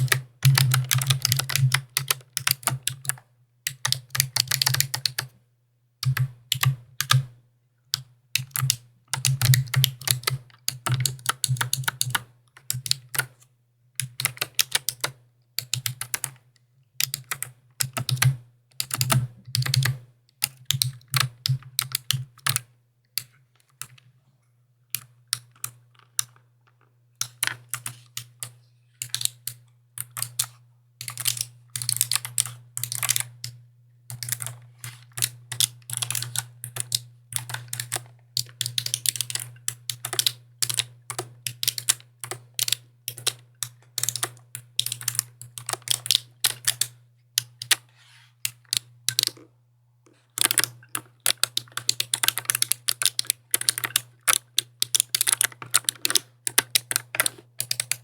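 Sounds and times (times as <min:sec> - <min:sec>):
clicky mechanical keyboard typing: 0:00.0 - 0:05.3, 0:06.0 - 0:07.3, 0:08.0 - 0:13.3, 0:14.0 - 0:16.4, 0:17.0 - 0:24.0, 0:27.2 - 0:49.5, 0:50.1 - 0:58.0.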